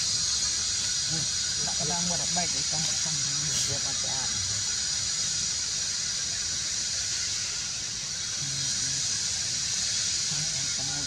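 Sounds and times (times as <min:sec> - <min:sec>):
forest insects droning: 0:00.0 - 0:11.0.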